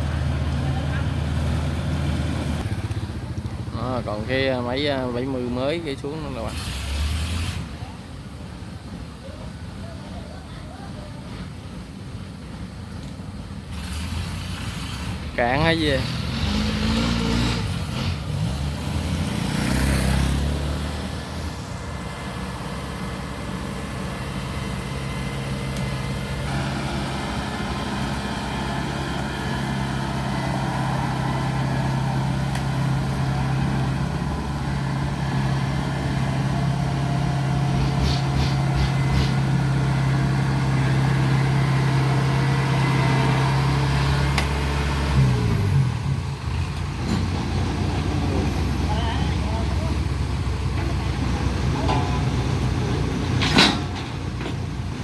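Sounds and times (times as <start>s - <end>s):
combine harvester engine: 0.0s - 9.2s, 11.8s - 55.0s.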